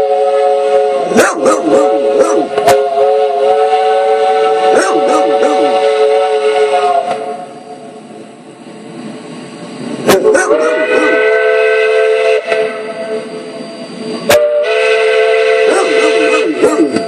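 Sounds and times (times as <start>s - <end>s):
steam locomotive whistle: 0.0s - 8.0s, 10.0s - 17.0s.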